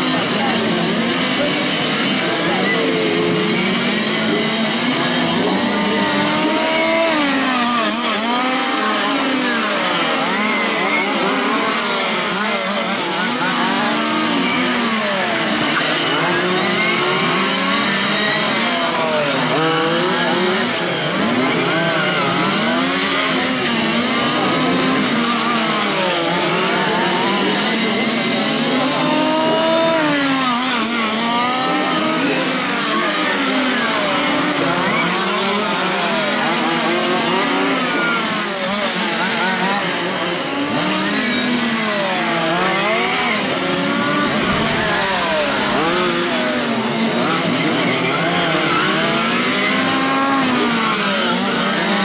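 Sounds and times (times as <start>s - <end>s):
small race car engines revving: 0.0s - 52.0s.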